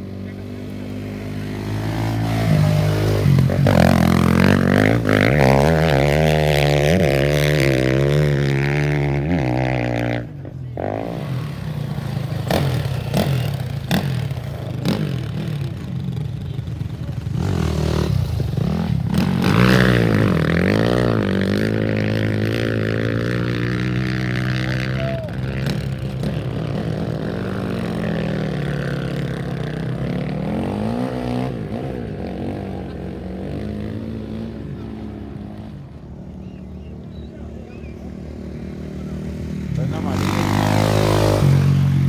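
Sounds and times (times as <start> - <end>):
race vehicle engines revving: 0.0 - 42.0.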